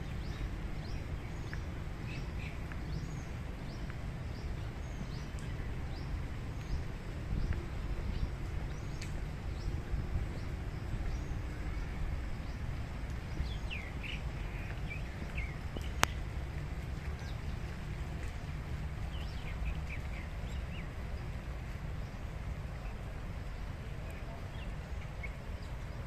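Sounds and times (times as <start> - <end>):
birds chirping: 0.0 - 26.0
low outdoor rumble: 0.0 - 26.0.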